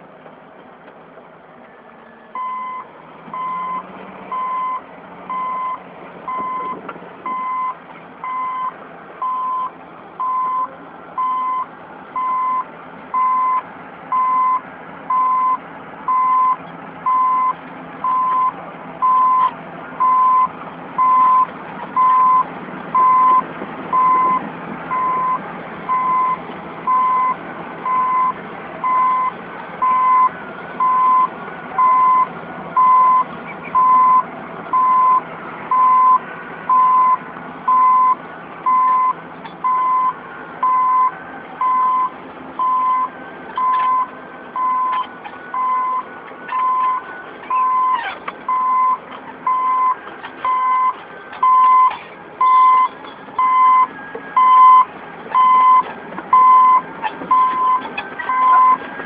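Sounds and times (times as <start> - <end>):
bulldozer tracks: 0.0 - 59.0
diesel engine: 0.0 - 59.0
backup alarm beeping: 2.4 - 2.8, 3.4 - 12.6, 13.2 - 55.8, 56.4 - 58.8.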